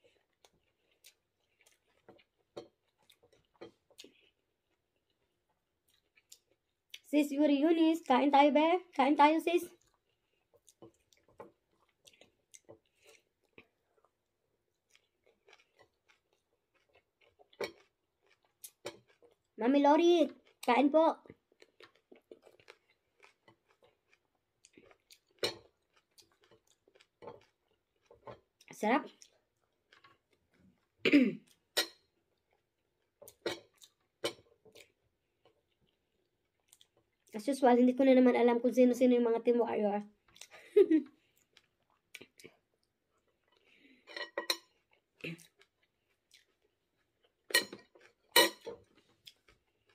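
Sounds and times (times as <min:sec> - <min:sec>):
close-up chewing: 0:00.0 - 0:07.1, 0:09.7 - 0:19.6, 0:20.3 - 0:37.4, 0:41.2 - 0:49.9.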